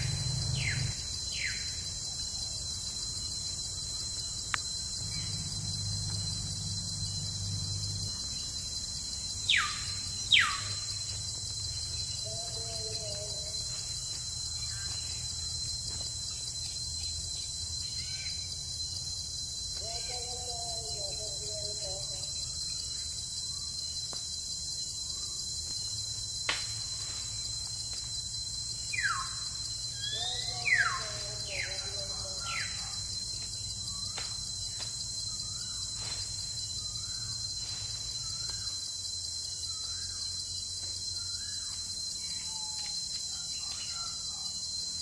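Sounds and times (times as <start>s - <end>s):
insect drone: 0.0s - 45.0s.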